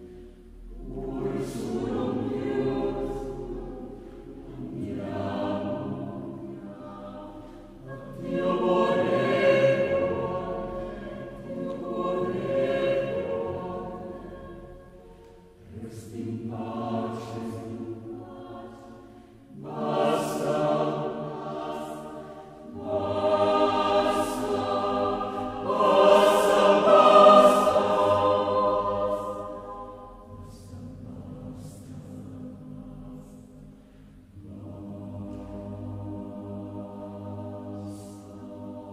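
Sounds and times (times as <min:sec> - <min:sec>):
choir singing held chords: 0:00.0 - 0:38.9.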